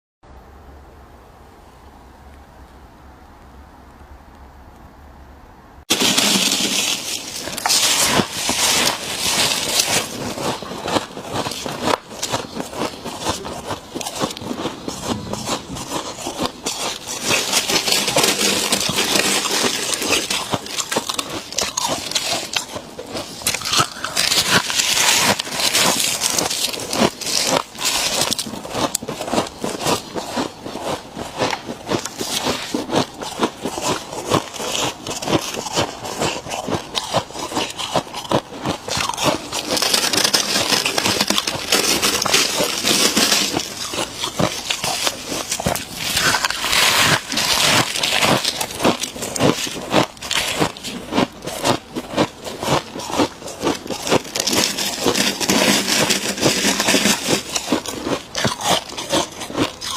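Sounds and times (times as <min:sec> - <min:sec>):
chewing frost crunching: 0:05.9 - 0:59.9.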